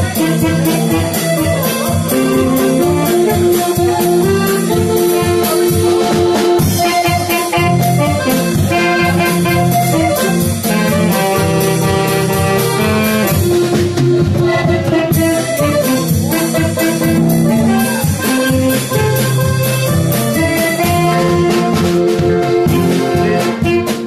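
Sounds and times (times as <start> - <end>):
drum kit beat: 0.0 - 24.0
electric guitar: 0.0 - 24.0
tenor saxophone: 0.0 - 24.0.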